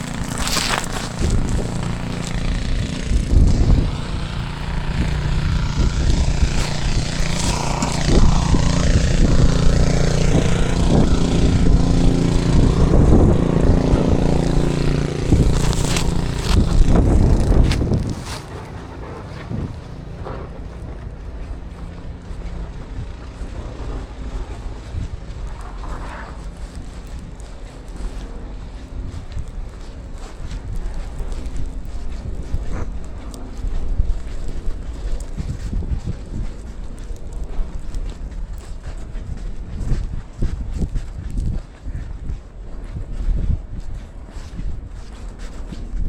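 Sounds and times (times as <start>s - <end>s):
large vehicle engine running: 0.0s - 40.4s
street noise: 0.0s - 41.1s.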